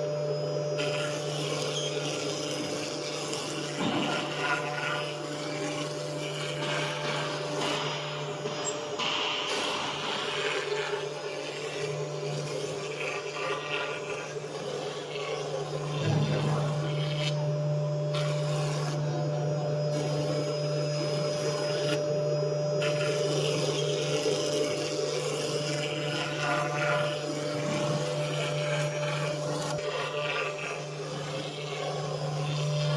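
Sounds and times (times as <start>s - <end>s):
cutter working material: 0.0s - 32.9s
spindle humming: 0.0s - 32.9s.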